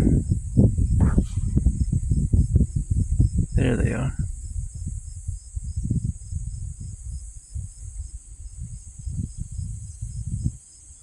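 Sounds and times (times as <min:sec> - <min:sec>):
cricket chirping: 0:00.0 - 0:11.0
high insect buzz: 0:00.0 - 0:11.0
wind buffeting microphone: 0:00.0 - 0:11.0.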